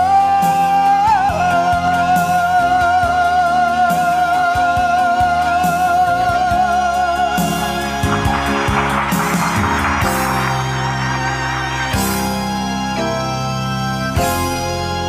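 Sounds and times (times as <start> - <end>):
backing music track: 0.0 - 15.0.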